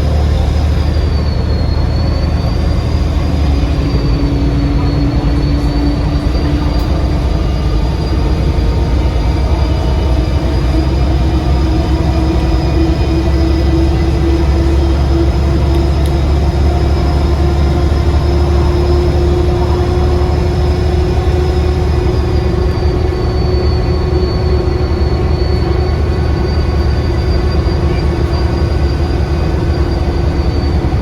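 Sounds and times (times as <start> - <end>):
bus diesel engine drone: 0.0 - 31.0
turbo whistle: 0.0 - 31.0.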